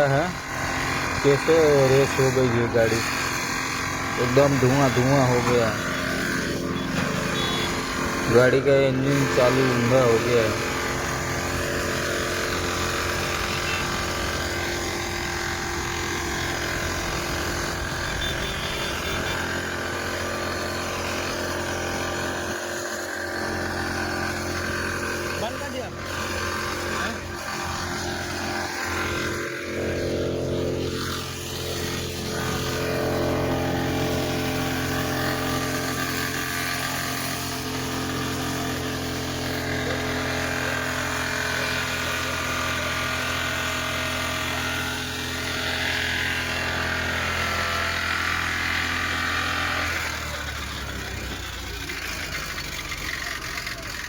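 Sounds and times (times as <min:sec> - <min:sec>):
auto-rickshaw engine humming: 0:00.0 - 0:54.0.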